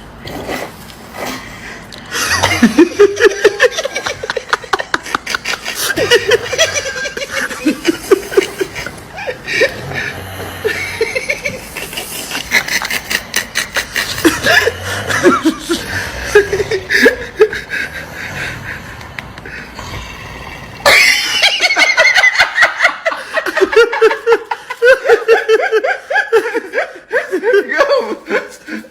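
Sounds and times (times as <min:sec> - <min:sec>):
people laughing: 0:02.0 - 0:19.7, 0:20.8 - 0:28.9.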